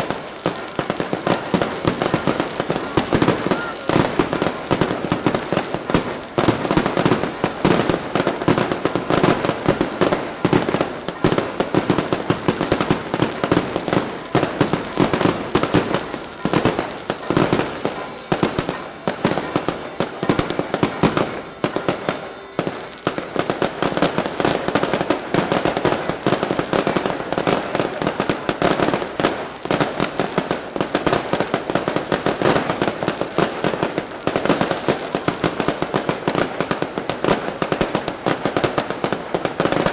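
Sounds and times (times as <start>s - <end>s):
fireworks barrage: 0.0s - 39.9s.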